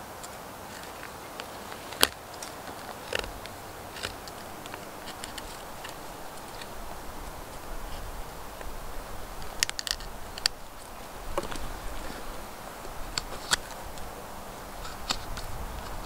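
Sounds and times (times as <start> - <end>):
faint steady hiss: 0.0 - 16.0
knife scraping wood and bark: 0.6 - 16.0.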